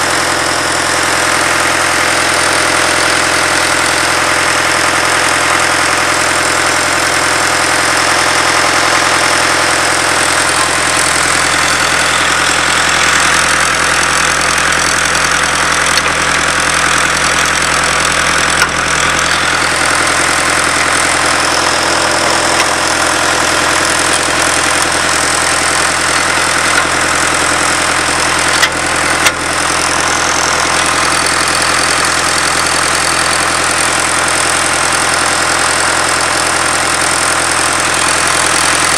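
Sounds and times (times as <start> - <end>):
drill rig engine running: 0.0 - 38.9.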